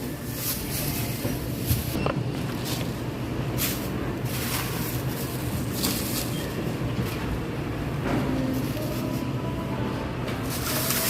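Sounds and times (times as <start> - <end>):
low rumble and hum of store: 0.0 - 11.0.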